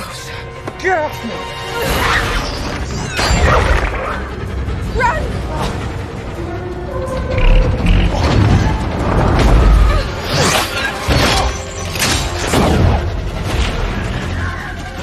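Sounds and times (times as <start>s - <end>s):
dramatic orchestral music: 0.0s - 15.0s.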